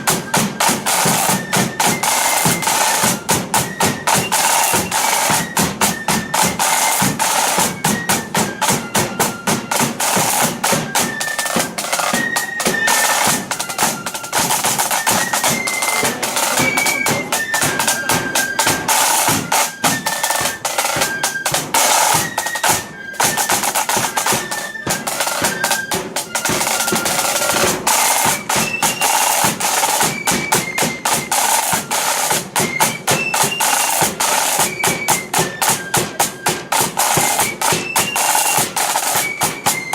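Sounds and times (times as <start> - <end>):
flute melody: 0.0 - 39.9
rapid snare drumming: 0.0 - 39.9.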